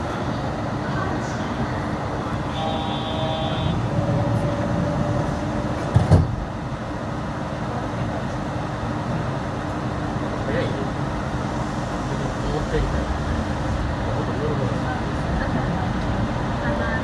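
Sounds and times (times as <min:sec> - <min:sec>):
automated train rumbling: 0:00.0 - 0:17.0.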